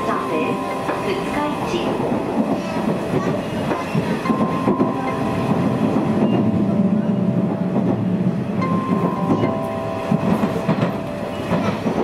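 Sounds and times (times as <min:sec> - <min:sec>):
thin train whine: 0:00.0 - 0:12.0
train wheels rumbling on rail: 0:00.0 - 0:12.0.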